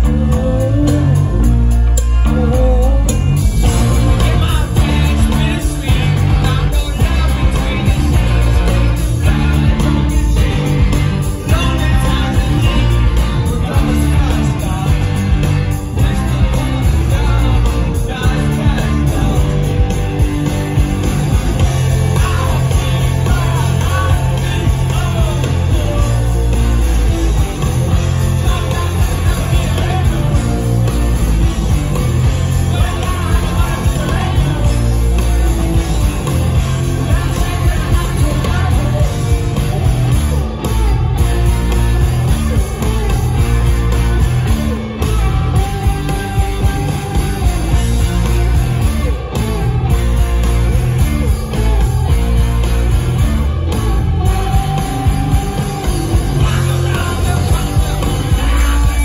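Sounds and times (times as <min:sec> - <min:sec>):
person singing: 0:00.0 - 0:49.6, 0:53.8 - 0:59.0
electric guitar: 0:00.0 - 0:59.0
heavy bass: 0:00.0 - 0:59.0
live rock band playing: 0:00.0 - 0:59.0.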